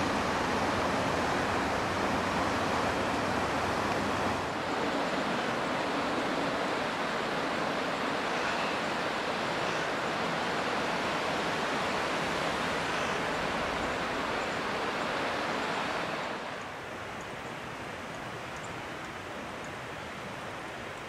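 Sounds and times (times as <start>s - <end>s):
river current roaring: 0.0s - 21.0s.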